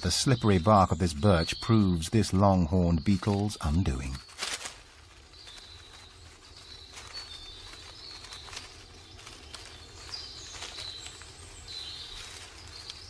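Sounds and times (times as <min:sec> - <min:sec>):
low forest rumble: 0:00.0 - 0:13.0
small birds chirping: 0:00.0 - 0:13.0.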